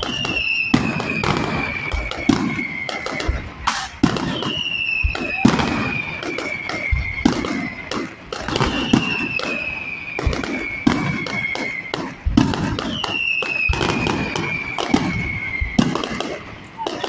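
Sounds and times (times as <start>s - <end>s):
falling firework whistles: 0.0s - 17.0s
firework bangs: 0.0s - 17.0s
firework crackling: 0.0s - 17.0s.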